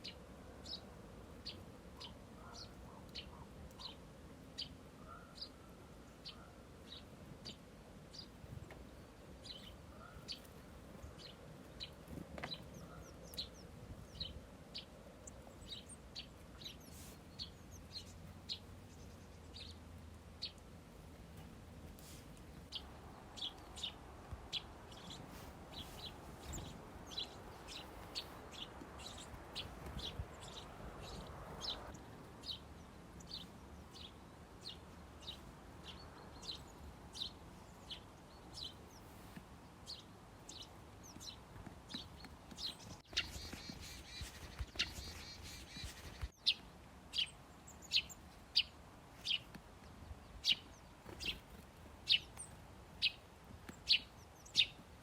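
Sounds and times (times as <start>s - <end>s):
birds twittering: 0.0s - 4.0s, 4.6s - 20.6s, 21.4s - 54.9s
songbirds chirping: 0.0s - 55.0s.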